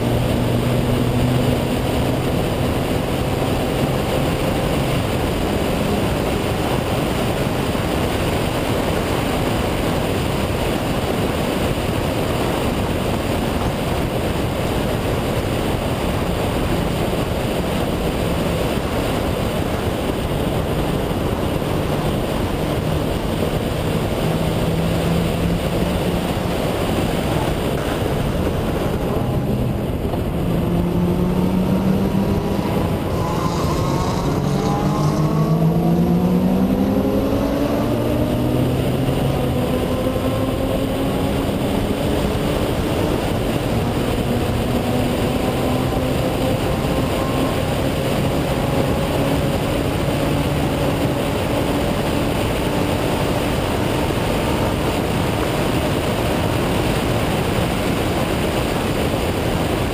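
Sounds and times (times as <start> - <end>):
race car engine accelerating: 0.0 - 59.9
wind and road noise: 0.0 - 59.9.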